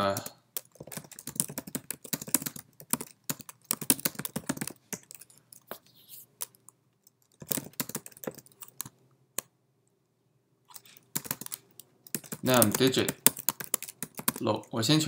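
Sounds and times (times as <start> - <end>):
typing on computer keyboard: 0.0 - 5.7, 6.4 - 9.5, 10.7 - 14.7.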